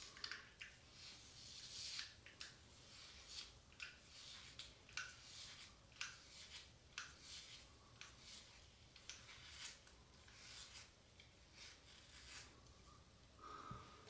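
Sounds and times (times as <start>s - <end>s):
razor scraping scalp: 0.0s - 12.7s.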